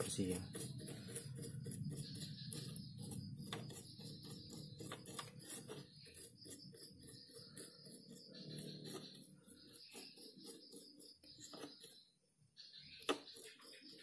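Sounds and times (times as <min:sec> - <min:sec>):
brush scrubbing circuit board: 0:00.0 - 0:12.1, 0:13.0 - 0:14.0.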